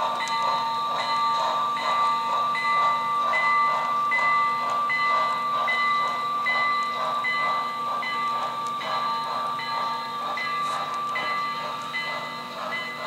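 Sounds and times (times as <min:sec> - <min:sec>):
model train cars rolling: 0:00.0 - 0:13.0.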